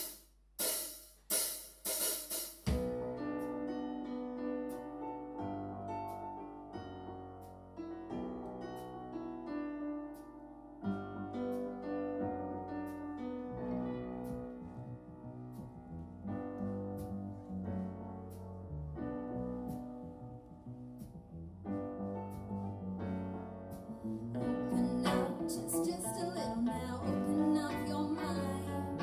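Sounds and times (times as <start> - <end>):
keyboard piano chords: 2.7 - 29.0.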